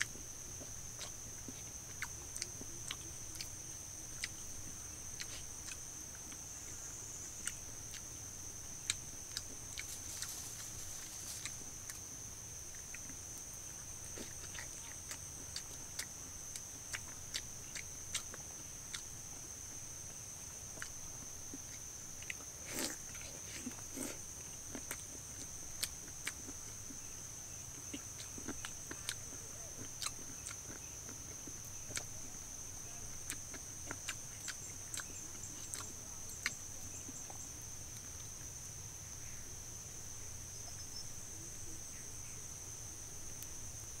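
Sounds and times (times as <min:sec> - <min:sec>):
person chewing crispy food: 0:00.0 - 0:32.6, 0:33.2 - 0:37.5
insect drone: 0:00.0 - 0:44.0.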